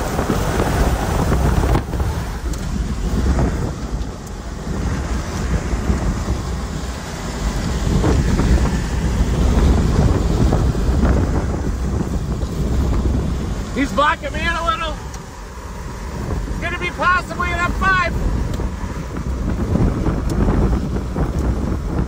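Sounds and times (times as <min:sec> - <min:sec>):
strong wind buffeting: 0:00.0 - 0:22.0.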